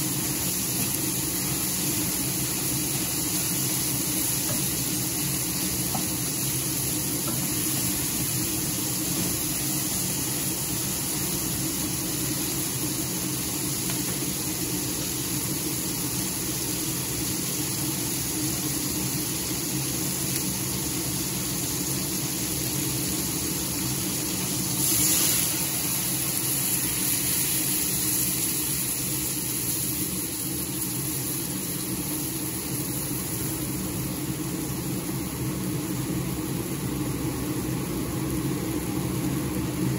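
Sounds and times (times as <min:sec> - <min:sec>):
low mechanical hum: 0:00.0 - 0:39.9
meat sizzling in a frying pan: 0:00.0 - 0:39.9.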